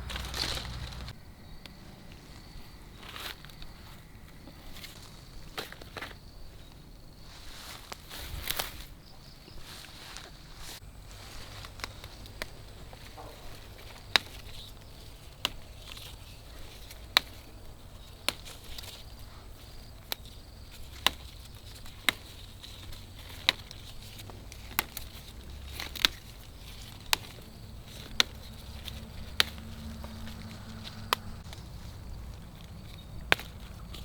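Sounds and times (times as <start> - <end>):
faint insect drone: 0.0 - 34.0.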